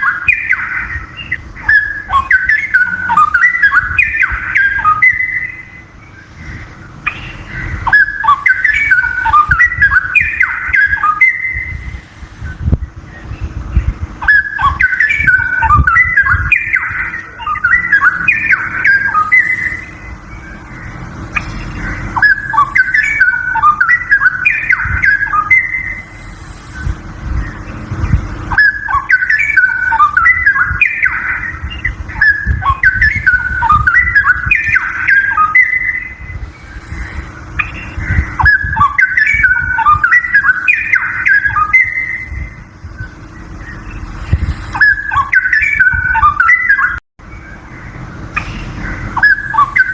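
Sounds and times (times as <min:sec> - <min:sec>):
bird singing whistled notes: 0:00.0 - 0:49.9.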